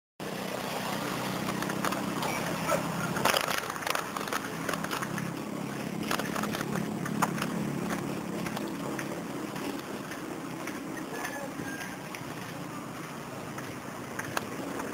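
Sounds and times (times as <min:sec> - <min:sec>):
bicycle tyre rolling on concrete: 0:00.2 - 0:14.9
bicycle rattles and clicks: 0:01.0 - 0:14.9.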